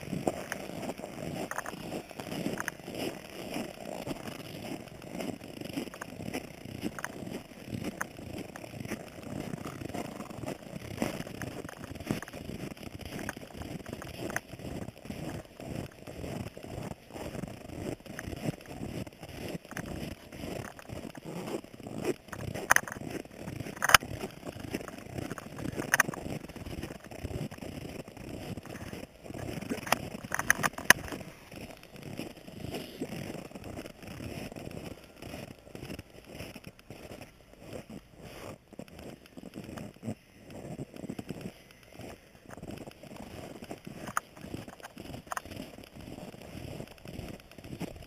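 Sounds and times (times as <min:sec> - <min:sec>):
snow crunching and scraping: 0:00.0 - 0:48.0.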